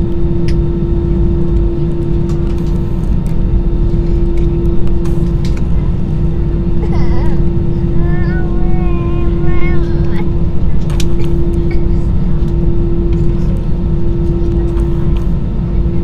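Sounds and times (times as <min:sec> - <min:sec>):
constant droning hum: 0:00.0 - 0:16.0
low rumble of engines: 0:00.0 - 0:16.0.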